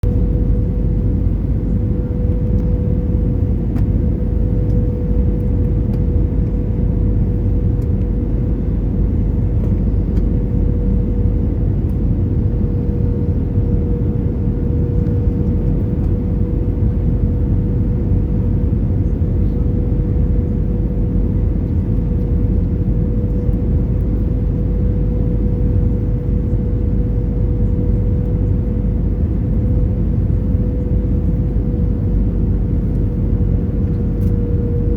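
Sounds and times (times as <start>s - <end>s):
aircraft cabin engine rumble: 0.0s - 34.9s.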